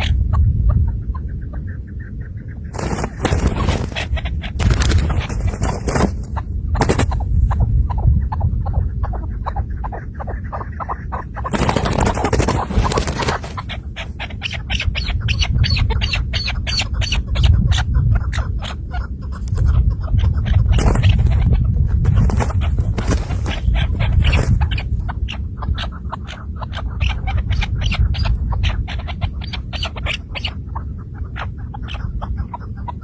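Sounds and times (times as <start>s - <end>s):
partridge chucking calls: 0.0s - 33.0s
steady low rumble: 0.0s - 33.0s.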